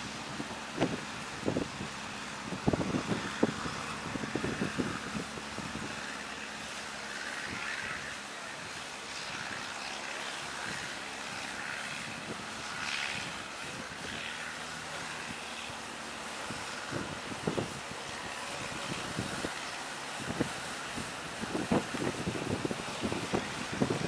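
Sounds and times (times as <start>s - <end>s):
wind noise on microphone: 0.0s - 9.8s, 10.4s - 24.0s
boat engine humming: 0.0s - 24.0s
waves rushing: 0.0s - 24.0s.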